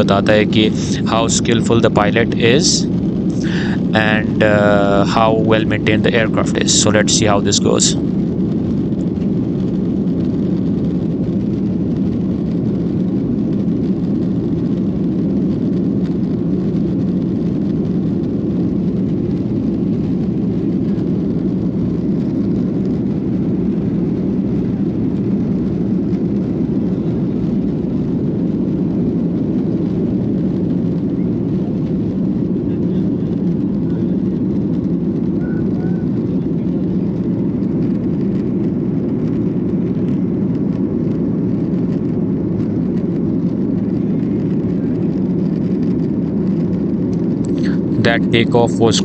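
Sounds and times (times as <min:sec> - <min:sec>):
airplane cabin engine rumble: 0:00.0 - 0:49.0.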